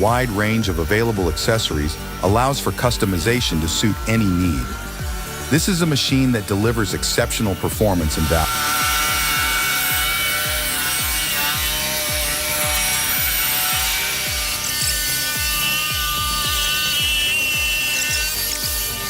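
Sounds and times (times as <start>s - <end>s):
background music with beat: 0.0s - 19.0s
saw cutting wood: 0.0s - 19.0s.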